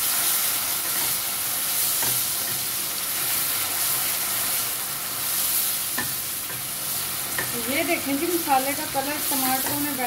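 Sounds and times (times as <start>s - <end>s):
food sizzling in oil: 0.0s - 10.0s
spatula stirring in pan: 0.0s - 10.0s.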